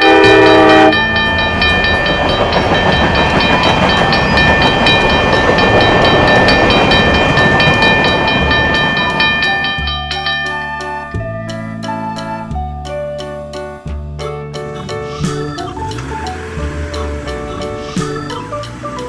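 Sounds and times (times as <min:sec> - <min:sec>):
train rumbling on rails: 0:00.0 - 0:12.4, 0:14.6 - 0:19.0
light jingle tune: 0:00.0 - 0:19.0.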